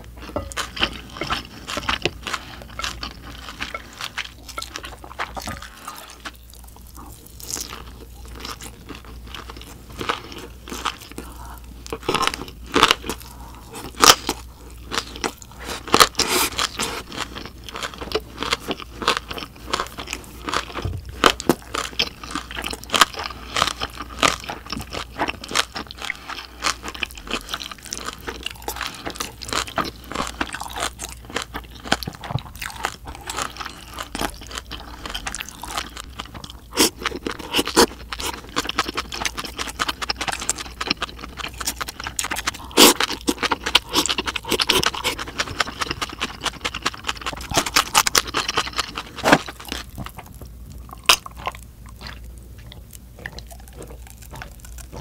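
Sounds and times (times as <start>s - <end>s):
person chewing and crunching: 0.0s - 55.0s.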